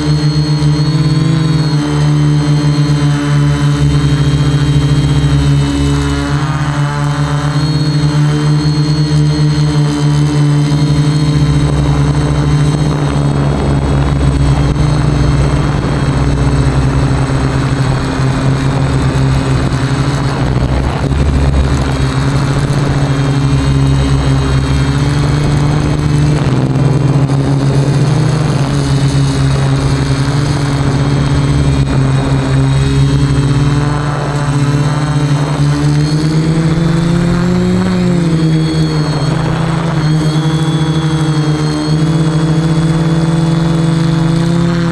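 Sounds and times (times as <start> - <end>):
quadcopter motors humming: 0.0 - 44.9.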